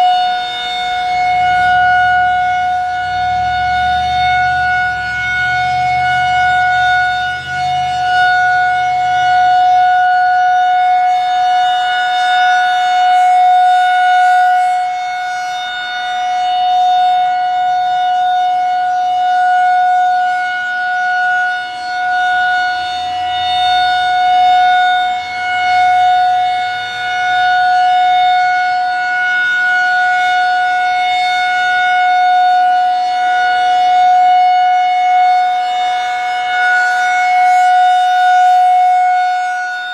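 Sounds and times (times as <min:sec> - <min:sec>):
steady siren tone: 0:00.0 - 0:39.9.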